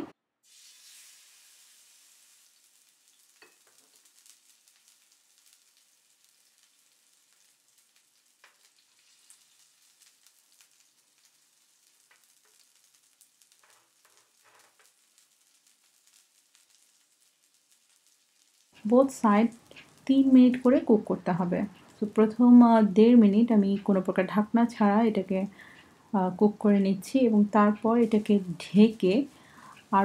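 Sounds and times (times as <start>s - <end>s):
chicken frying in oil: 0.4s - 24.7s, 26.6s - 30.0s.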